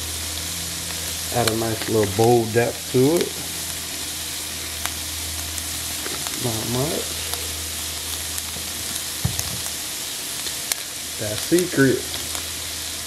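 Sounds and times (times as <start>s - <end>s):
meat sizzling in a skillet: 0.0s - 13.0s.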